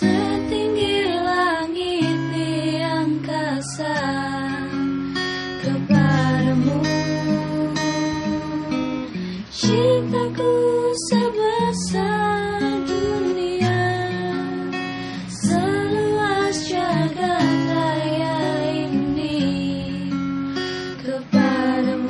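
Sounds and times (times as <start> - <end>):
acoustic guitar: 0.0 - 22.0
person singing: 0.0 - 22.0.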